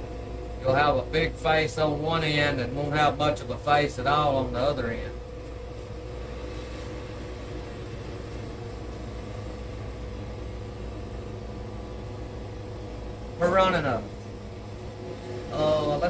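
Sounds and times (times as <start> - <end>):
band sawmill humming: 0.0 - 16.0.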